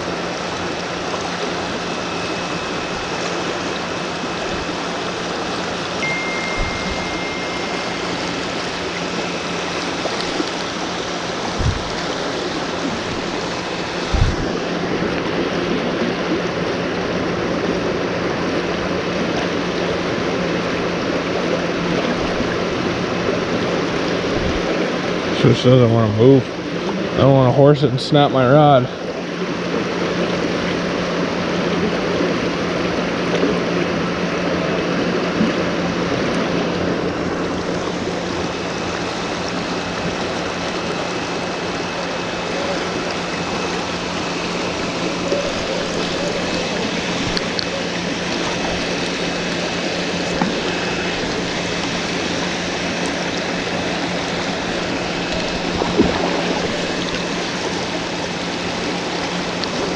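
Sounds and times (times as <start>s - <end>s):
creek water rushing: 0.0s - 59.9s
low steady hum: 0.0s - 59.9s.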